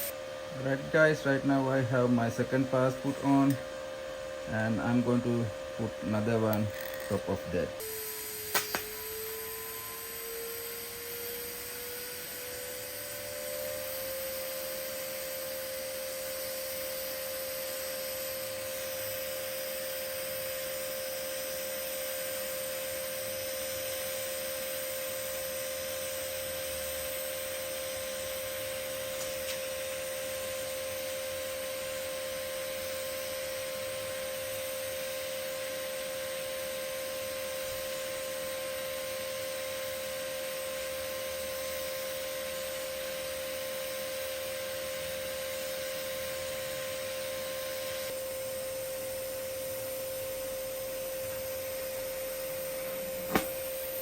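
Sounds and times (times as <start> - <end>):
welding arc hum and hiss: 0.0 - 54.0.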